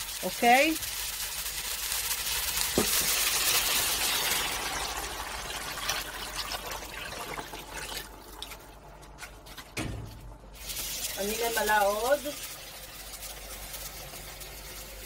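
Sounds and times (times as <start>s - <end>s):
water pouring into a hot pan: 0.0s - 8.7s, 10.6s - 15.0s.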